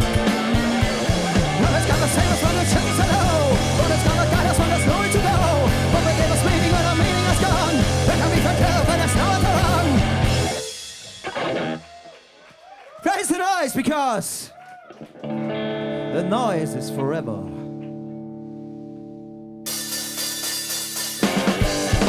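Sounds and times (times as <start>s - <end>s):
live rock band playing: 0.0s - 12.4s, 15.2s - 22.0s.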